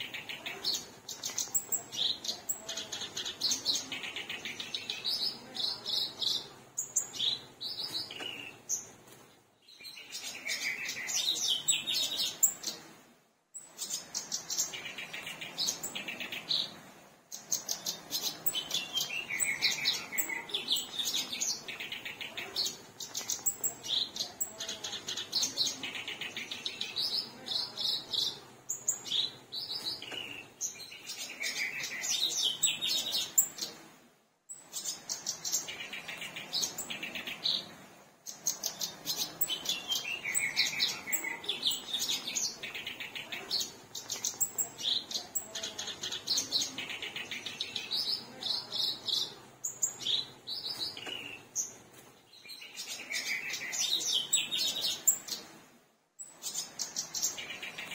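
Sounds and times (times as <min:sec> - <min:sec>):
reed warbler chattering song: 0:00.0 - 0:12.9, 0:13.5 - 0:33.8, 0:34.5 - 0:55.5, 0:56.2 - 0:57.9.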